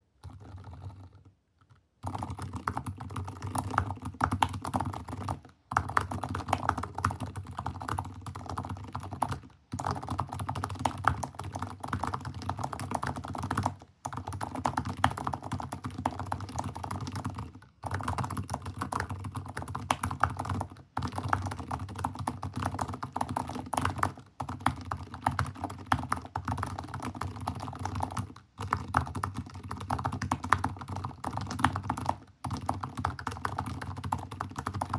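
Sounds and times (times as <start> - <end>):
fast typing on mechanical keyboard: 0.2 - 34.9.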